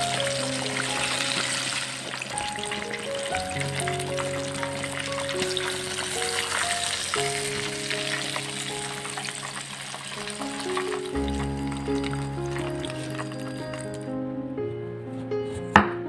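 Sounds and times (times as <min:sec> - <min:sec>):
food sizzling in a pan: 0:00.0 - 0:14.0
background music: 0:00.0 - 0:16.0.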